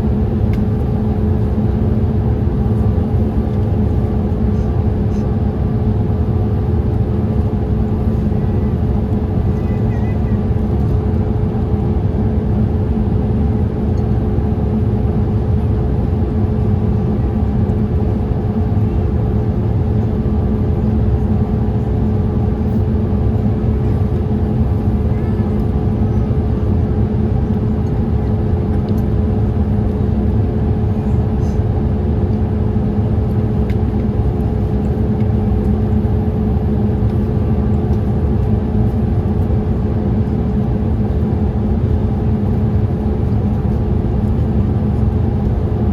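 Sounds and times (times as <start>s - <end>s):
airliner cabin noise: 0.0s - 45.9s.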